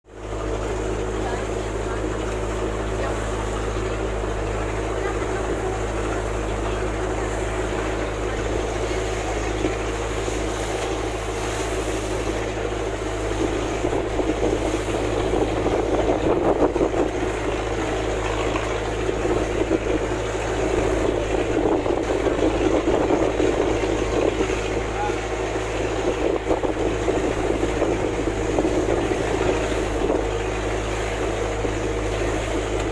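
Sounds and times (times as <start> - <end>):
motorboat engine humming: 0.0 - 32.9
sea wash: 0.1 - 32.9.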